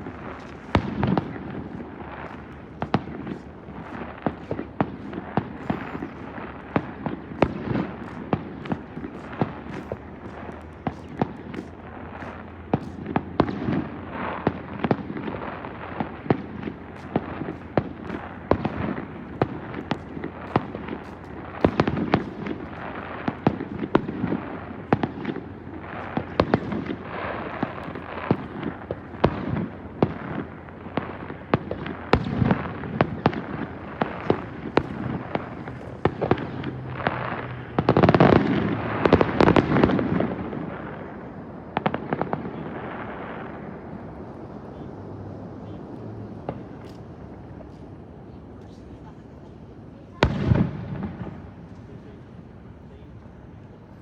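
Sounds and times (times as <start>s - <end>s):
fireworks bursting with bangs: 0.0s - 44.9s, 45.5s - 53.6s.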